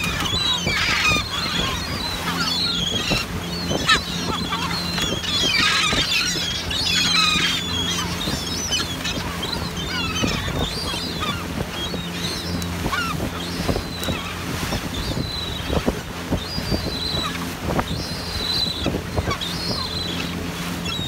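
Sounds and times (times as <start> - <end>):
boat engine hum: 0.0 - 21.0
gulls squealing: 0.0 - 21.0.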